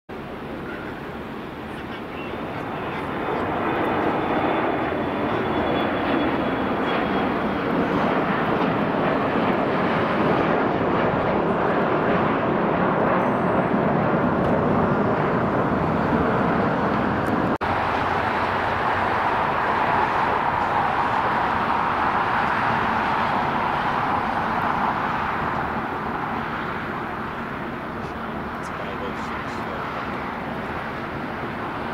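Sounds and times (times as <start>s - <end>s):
faint high turbine whine: 0.1s - 31.9s
jet engine rush: 0.1s - 31.9s.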